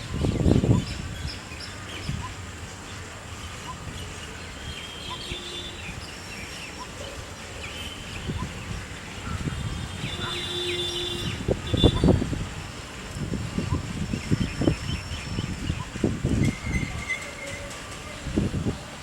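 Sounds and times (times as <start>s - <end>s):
small birds chirping: 0.0s - 12.4s, 13.2s - 17.6s.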